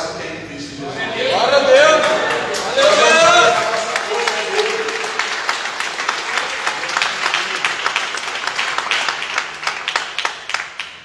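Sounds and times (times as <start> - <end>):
congregation applauding: 1.9 - 11.0.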